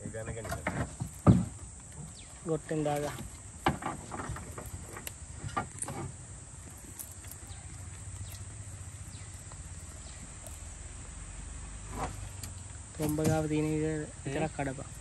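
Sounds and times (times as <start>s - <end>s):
high insect drone: 0.0s - 15.0s
low outdoor hum: 0.0s - 15.0s.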